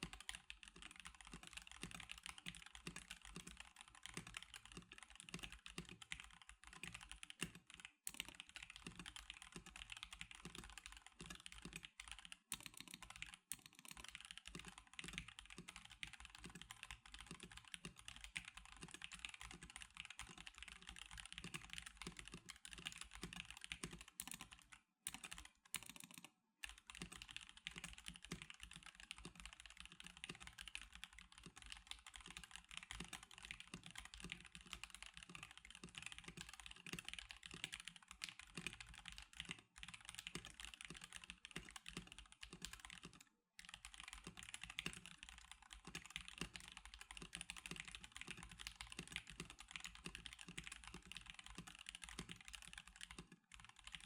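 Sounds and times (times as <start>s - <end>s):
fast typing on mechanical keyboard: 0.0s - 54.0s.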